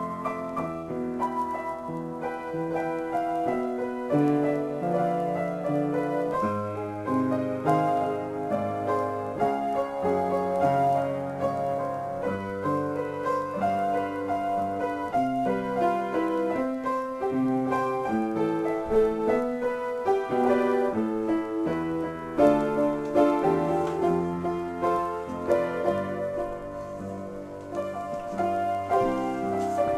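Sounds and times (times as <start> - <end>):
solo piano: 0.0 - 29.9.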